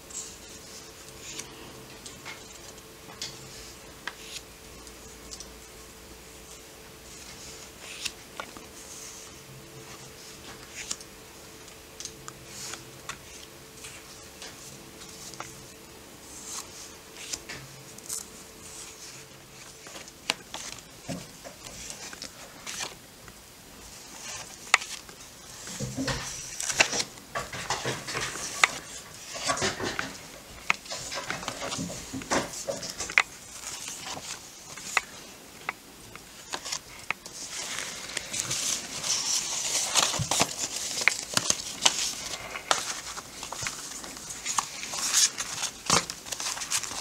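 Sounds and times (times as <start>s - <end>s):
cards being shuffled: 0.1s - 5.5s, 6.4s - 23.0s, 23.9s - 47.0s
postcards rustling and tapping: 0.1s - 47.0s.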